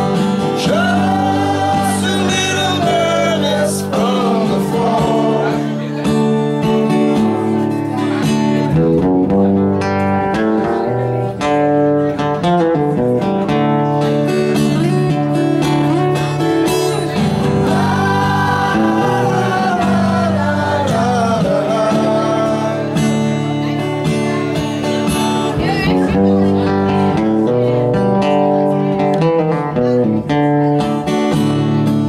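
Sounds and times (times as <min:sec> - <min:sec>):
strummed acoustic guitar chords: 0:00.0 - 0:32.0
wavering guitar melody: 0:00.0 - 0:32.0.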